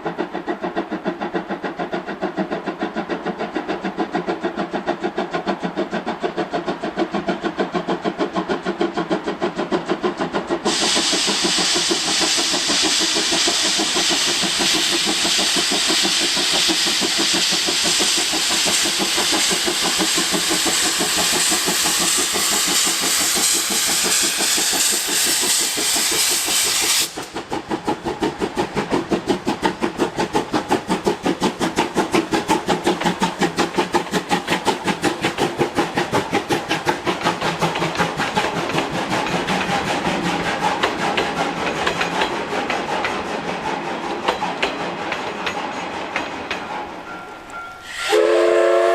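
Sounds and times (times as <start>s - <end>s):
loud steam hiss: 0.0s - 47.0s, 47.8s - 48.9s
steam locomotive exhaust chuffs: 0.0s - 48.9s.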